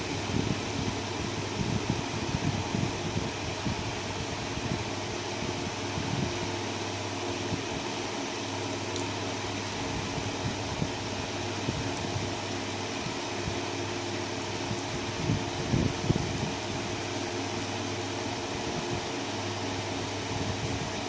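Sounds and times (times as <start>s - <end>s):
mechanical hum and hiss: 0.0s - 21.0s.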